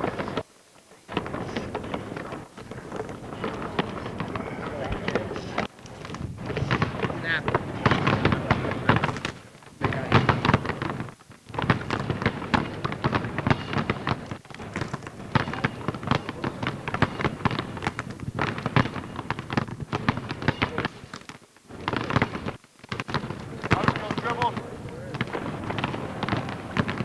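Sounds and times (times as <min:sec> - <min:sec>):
basketballs dribbling on hardwood: 0:01.1 - 0:27.0.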